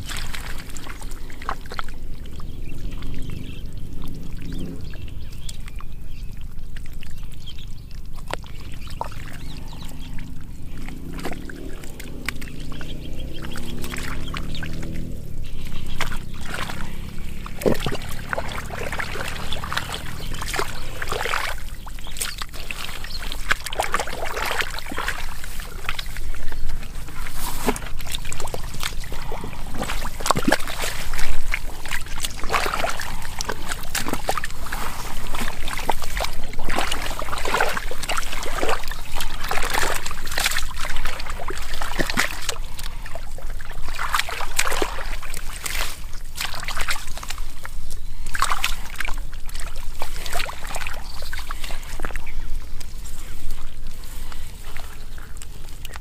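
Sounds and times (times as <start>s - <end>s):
low hum: 0.0s - 46.2s
muddy water sloshing: 0.0s - 56.0s.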